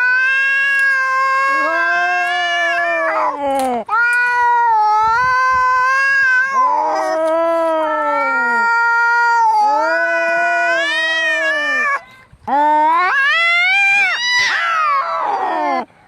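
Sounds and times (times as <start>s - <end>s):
cats yowling: 0.0s - 12.0s, 12.6s - 15.9s.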